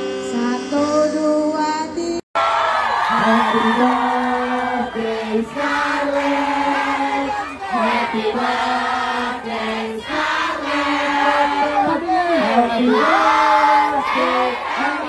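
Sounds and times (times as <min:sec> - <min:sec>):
group singing long notes: 0:02.9 - 0:15.0.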